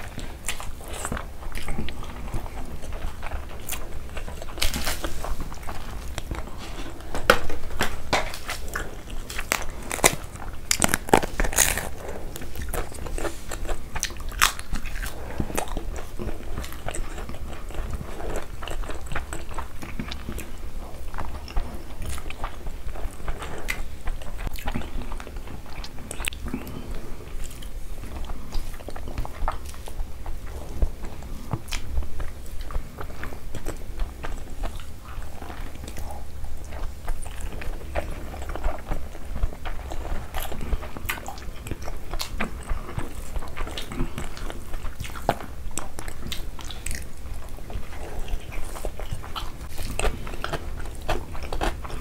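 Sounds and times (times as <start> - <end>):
chewing and crunching: 0.0 - 52.0.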